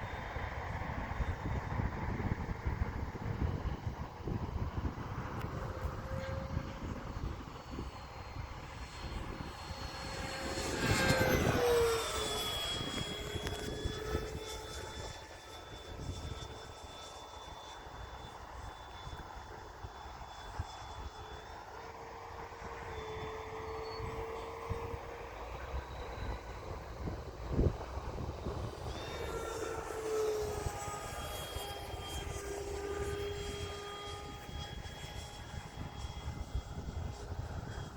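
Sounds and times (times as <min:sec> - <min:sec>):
wind rumble on microphone: 0:00.0 - 0:37.9
rc jet whining: 0:00.1 - 0:37.9.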